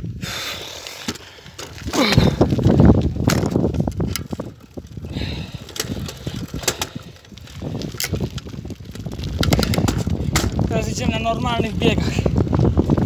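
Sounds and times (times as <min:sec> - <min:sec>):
bicycle tyres on asphalt: 0:00.0 - 0:13.0
wind buffeting microphone: 0:00.0 - 0:13.0
sharp clicks and rattles: 0:01.0 - 0:13.0.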